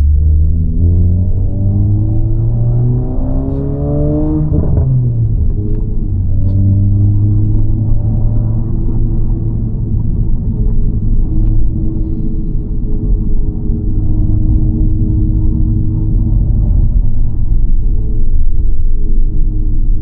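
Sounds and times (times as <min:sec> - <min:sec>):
car engine from inside cabin: 0:00.0 - 0:20.0.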